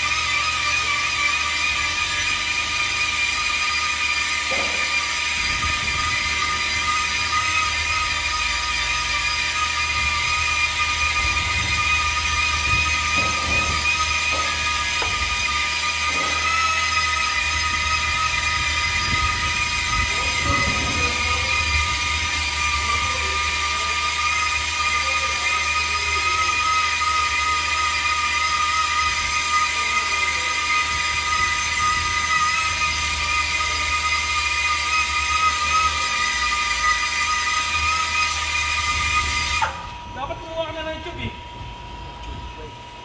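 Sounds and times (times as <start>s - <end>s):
machine whining: 0.0s - 43.0s.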